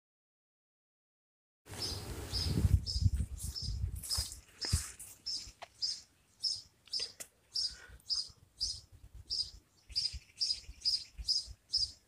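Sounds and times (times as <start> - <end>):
small bird chirping: 1.8 - 12.0.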